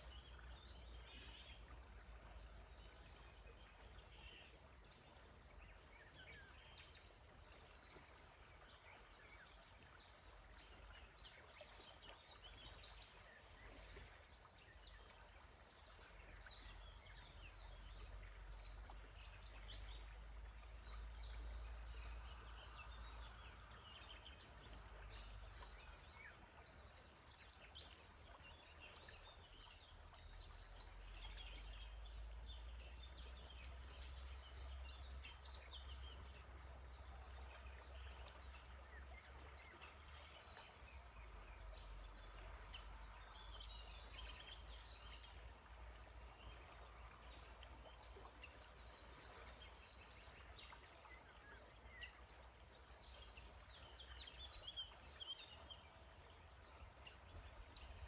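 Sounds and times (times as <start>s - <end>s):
faint birdsong: 0.0s - 58.0s
river water: 0.0s - 58.0s.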